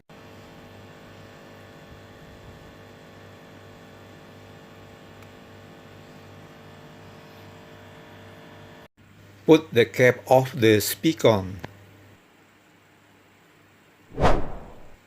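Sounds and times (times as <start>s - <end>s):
electrical mains hum: 0.1s - 15.0s.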